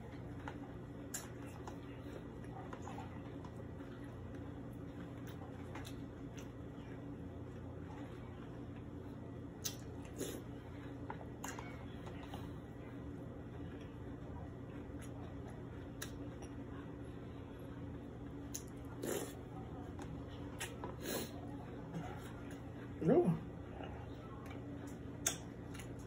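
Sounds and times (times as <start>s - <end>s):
chewing cereal: 0.0s - 26.0s
steady low hum: 0.0s - 26.0s.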